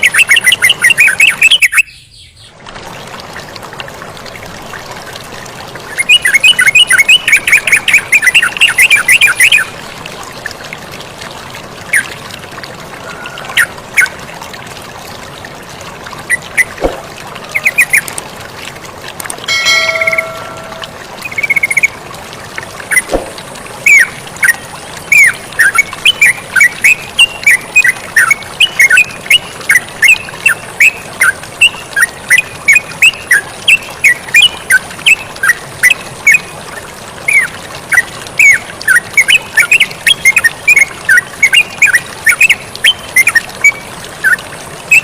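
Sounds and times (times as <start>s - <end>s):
flowing water hiss: 2.4s - 45.0s.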